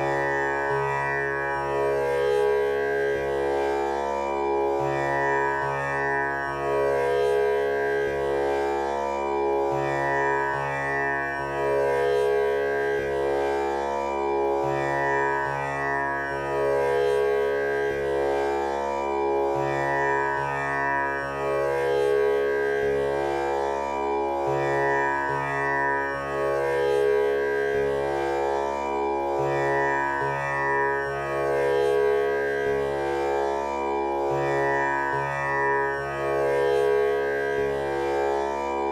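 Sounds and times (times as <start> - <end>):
tanpura drone: 0.0 - 38.9.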